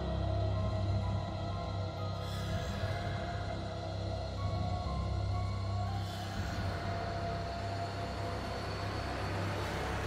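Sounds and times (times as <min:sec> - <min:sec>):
eerie ambient drone music: 0:00.0 - 0:10.0.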